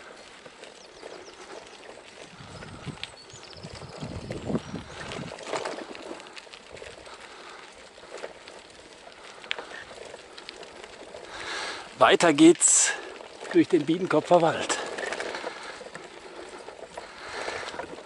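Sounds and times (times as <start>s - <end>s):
bicycle tyres crunching on ground: 0.0s - 18.0s
bike clicks and rattles: 0.0s - 18.0s.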